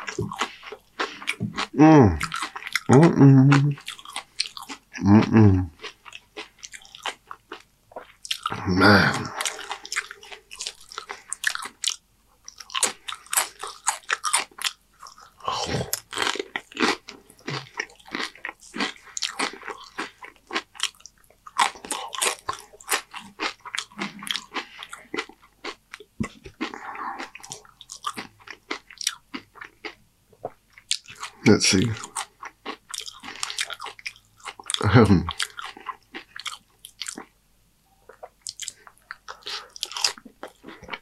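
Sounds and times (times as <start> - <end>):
chewing crunchy chips: 0.0 - 37.4, 38.0 - 41.0.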